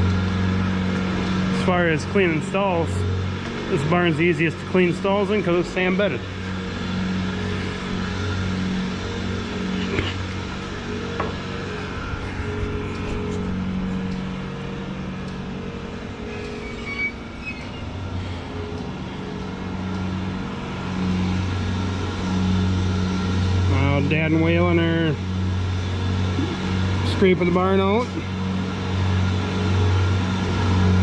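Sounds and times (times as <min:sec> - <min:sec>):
farm machine engine running: 0:00.0 - 0:31.0.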